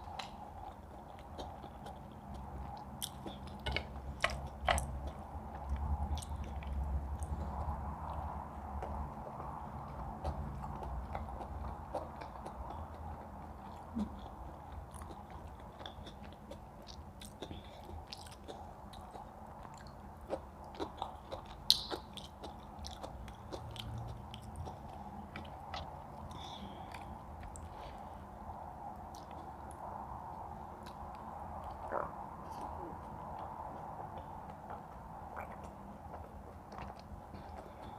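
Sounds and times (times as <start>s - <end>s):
people chewing food: 0.0s - 37.9s
steady background hum: 0.0s - 37.9s.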